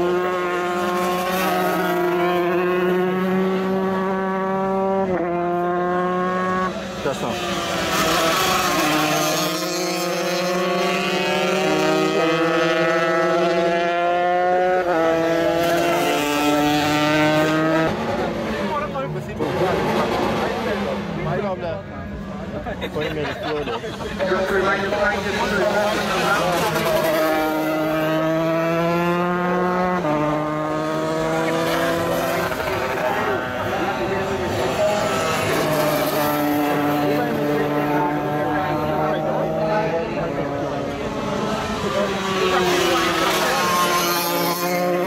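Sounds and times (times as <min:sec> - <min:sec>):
racing motorcycles at full throttle: 0:00.0 - 0:45.0.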